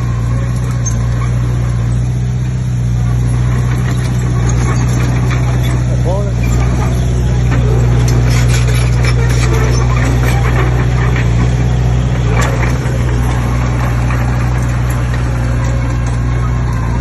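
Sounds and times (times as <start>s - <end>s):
heavy diesel engine running: 0.0s - 17.0s
rattling and clatter: 0.0s - 17.0s.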